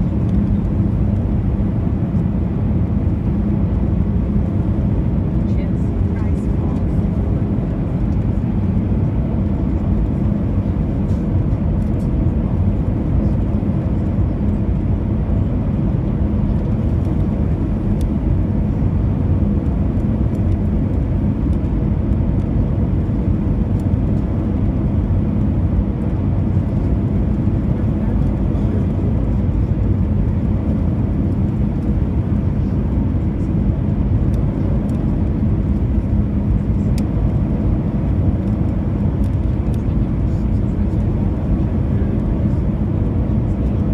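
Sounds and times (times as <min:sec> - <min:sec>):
aircraft cabin engine rush: 0:00.0 - 0:43.9.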